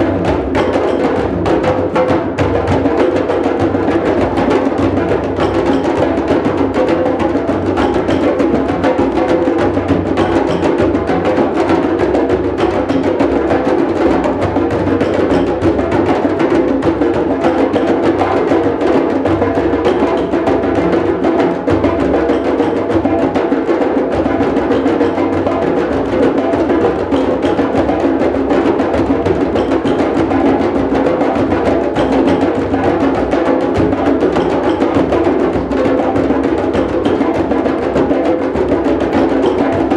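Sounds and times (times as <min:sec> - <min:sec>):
drum circle playing: 0:00.0 - 0:39.9.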